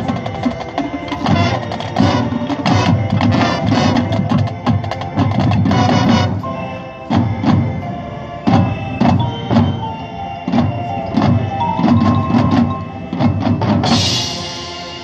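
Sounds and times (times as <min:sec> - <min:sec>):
drum and percussion hits: 0:00.0 - 0:06.4, 0:08.5 - 0:15.0
band music: 0:00.0 - 0:15.0.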